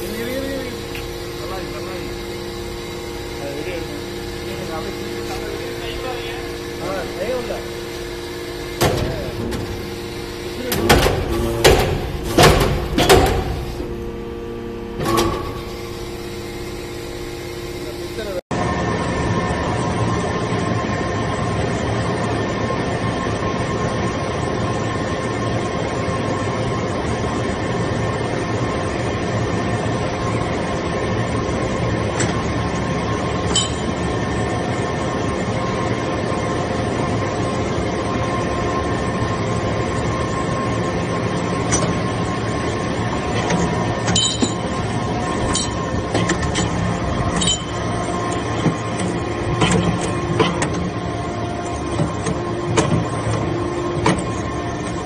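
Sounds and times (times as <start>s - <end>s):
hydraulic pump humming: 0.0s - 55.0s.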